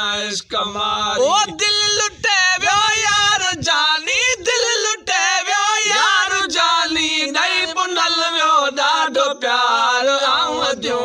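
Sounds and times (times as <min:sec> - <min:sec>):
men singing unaccompanied: 0:00.0 - 0:11.0.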